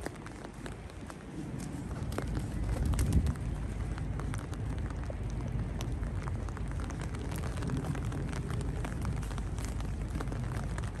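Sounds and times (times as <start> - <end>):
raindrops ticking: 0.0 - 11.0
wind buffeting microphone: 0.0 - 11.0.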